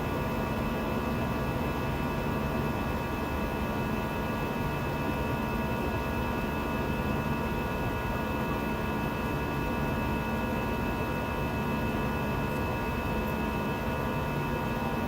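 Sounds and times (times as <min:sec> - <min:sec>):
aircraft cabin engine and airflow noise: 0:00.0 - 0:15.0
faint steady whines: 0:00.0 - 0:15.0.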